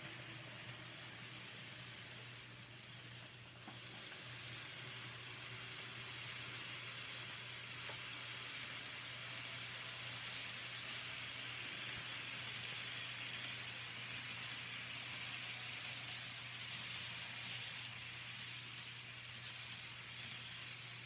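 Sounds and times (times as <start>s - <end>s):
model train whirring on track: 0.0s - 21.0s.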